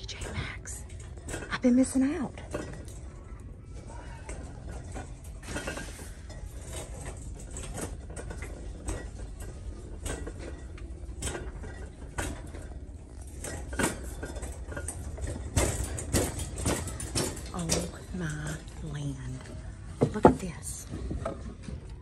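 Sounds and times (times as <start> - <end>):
handling clicks and rustles: 0.0 - 22.0
store background hum: 0.0 - 22.0.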